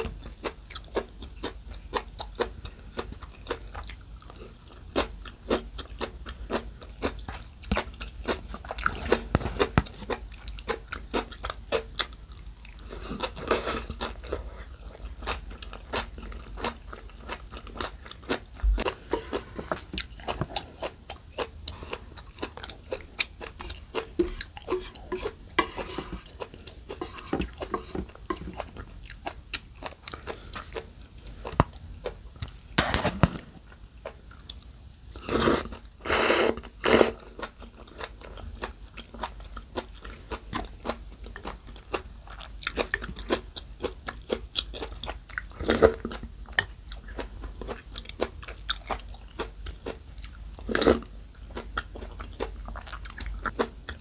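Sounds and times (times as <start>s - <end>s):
chewing crunches: 0.0s - 54.0s.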